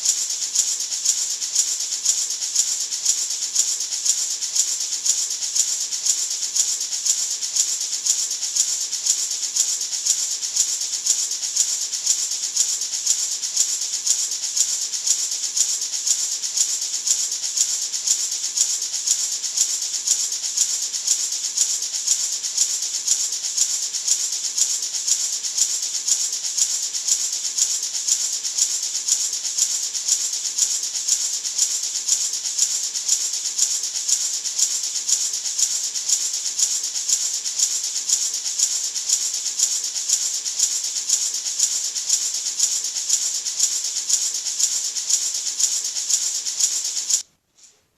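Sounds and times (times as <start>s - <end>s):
maraca rattling: 0.0s - 47.3s.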